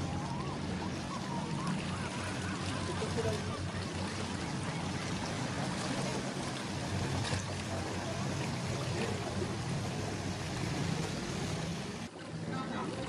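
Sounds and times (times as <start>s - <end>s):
boat engine humming: 0.0s - 13.0s
water splashing and lapping: 0.0s - 13.0s.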